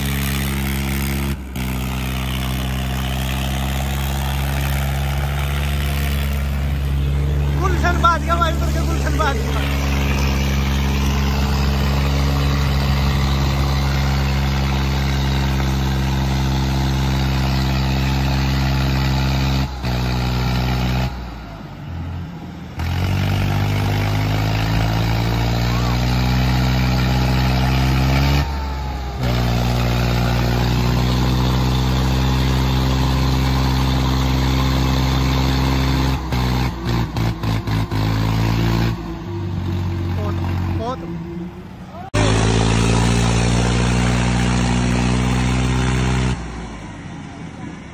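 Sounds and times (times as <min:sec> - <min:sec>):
tractor diesel engines revving hard: 0:00.0 - 0:47.9.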